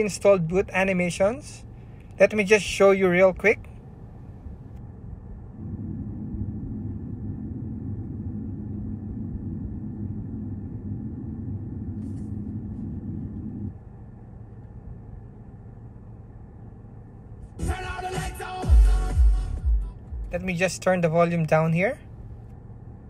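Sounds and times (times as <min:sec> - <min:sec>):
low hum: 0:00.0 - 0:23.0
low rumbling soundtrack: 0:03.0 - 0:23.0.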